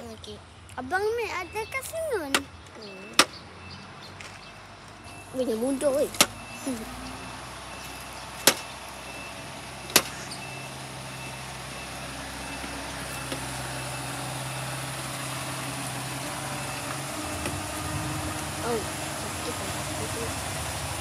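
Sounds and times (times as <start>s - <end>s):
low engine hum: 0.0s - 21.0s
truck reversing alarm beep: 2.8s - 4.2s, 5.0s - 20.9s.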